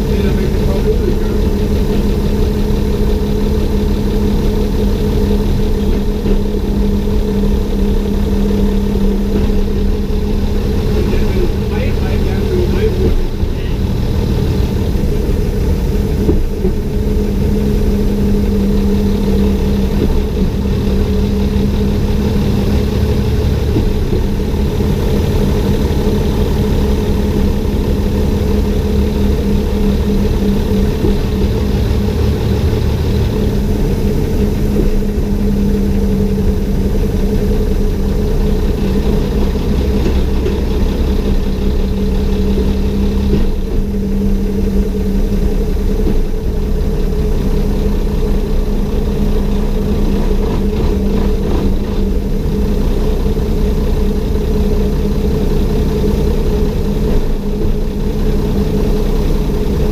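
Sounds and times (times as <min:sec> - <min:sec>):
railcar engine humming: 0:00.0 - 0:59.9.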